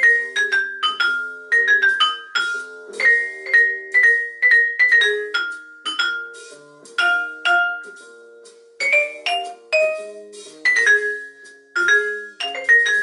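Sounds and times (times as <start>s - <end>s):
vibraphone played with mallets: 0.0s - 13.0s.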